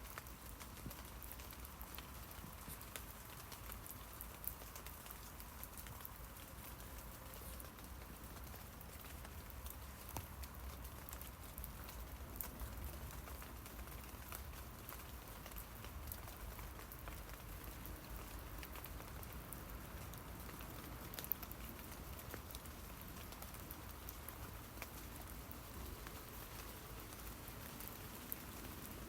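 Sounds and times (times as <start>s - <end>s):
rain pattering on leaves: 0.0s - 29.0s.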